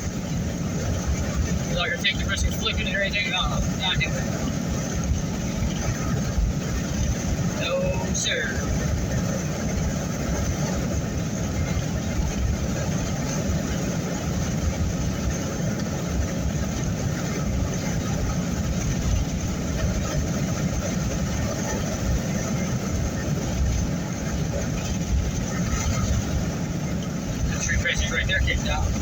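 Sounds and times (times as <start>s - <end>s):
truck road and engine rumble: 0.0s - 29.0s.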